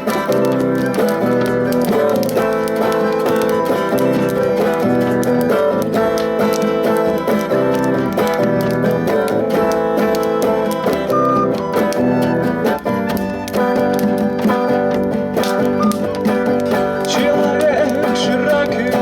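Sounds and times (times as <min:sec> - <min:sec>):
strummed acoustic guitar music: 0:00.0 - 0:19.0.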